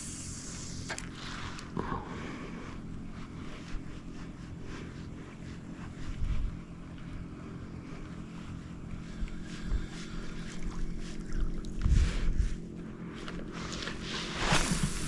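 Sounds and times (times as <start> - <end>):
small boat motor humming: 0.0 - 15.0.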